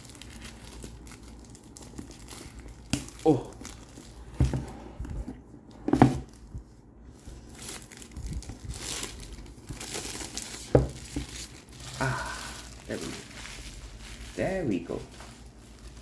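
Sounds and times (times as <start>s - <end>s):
packaging crinkling and tearing: 0.0s - 4.4s, 7.2s - 16.0s.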